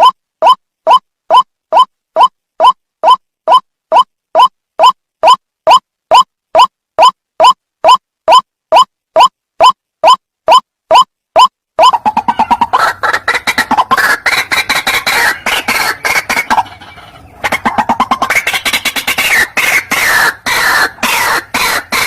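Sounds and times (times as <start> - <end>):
waterhen harsh repeated calls: 0.0 - 22.0.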